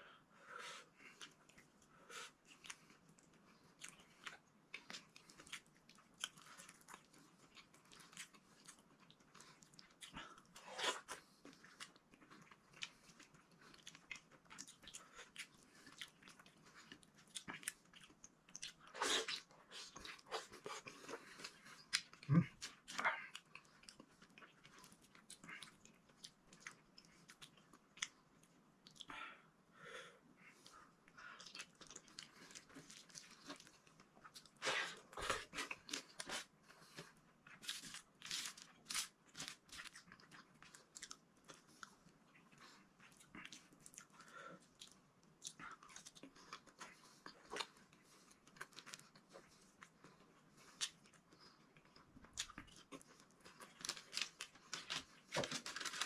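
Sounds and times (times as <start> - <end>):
person chewing: 1.0 - 29.1, 30.4 - 56.0.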